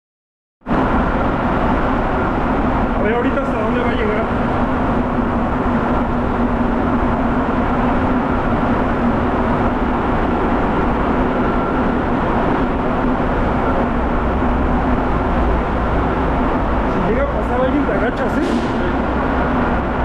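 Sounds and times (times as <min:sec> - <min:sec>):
metro train rumbling: 0:00.6 - 0:20.0.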